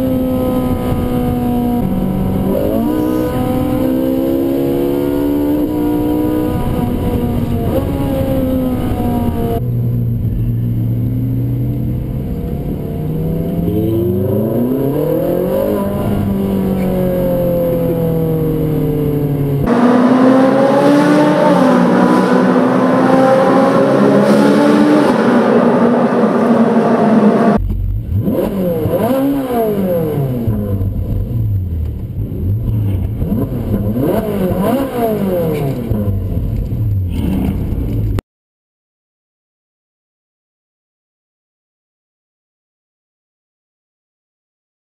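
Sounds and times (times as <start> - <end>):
car engine revving: 0.0 - 38.2
road and wind noise: 0.0 - 38.2.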